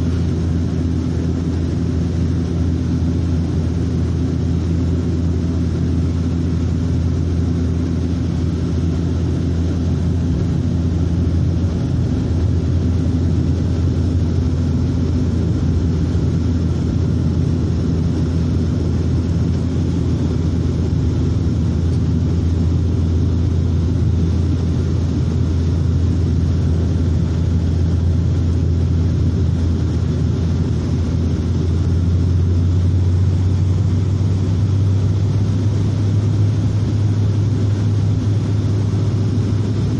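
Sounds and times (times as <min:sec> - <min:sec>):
engine and air noise: 0:00.0 - 0:39.9
low propeller hum: 0:00.0 - 0:39.9.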